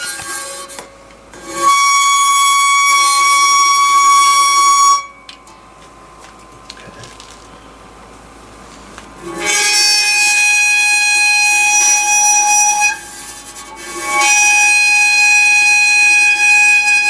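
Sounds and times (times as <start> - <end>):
buzzy high-pitched test tone: 0.0 - 8.6, 9.2 - 17.0.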